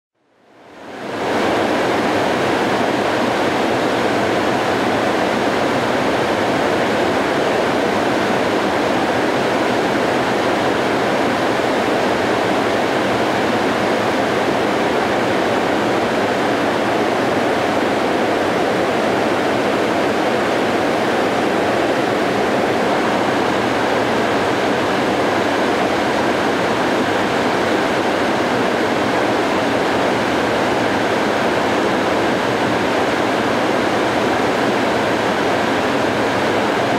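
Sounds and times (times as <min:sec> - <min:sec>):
water rushing over a spillway: 0:00.7 - 0:36.9.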